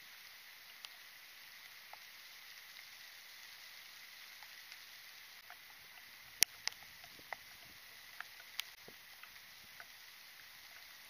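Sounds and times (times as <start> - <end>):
rain hissing: 0.0 - 11.0
water drips: 0.1 - 11.0.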